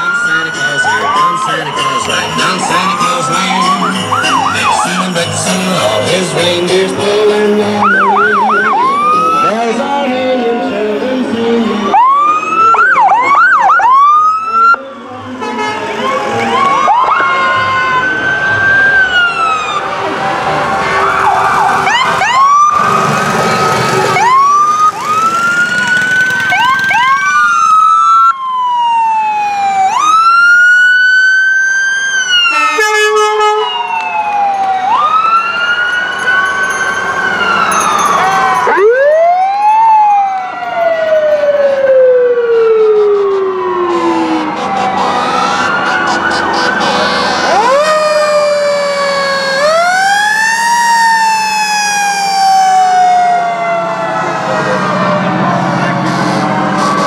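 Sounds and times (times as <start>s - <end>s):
emergency vehicle sirens wailing: 0.0s - 57.0s.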